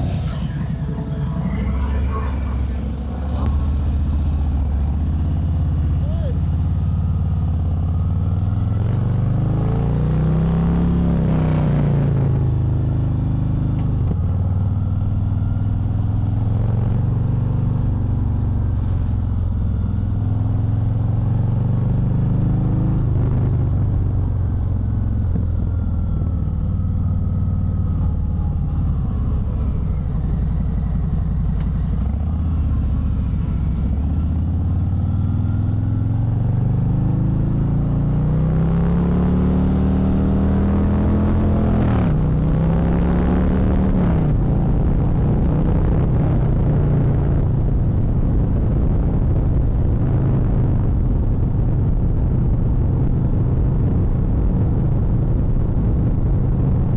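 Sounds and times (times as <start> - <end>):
motorcycle engine on the road: 0.0 - 56.9.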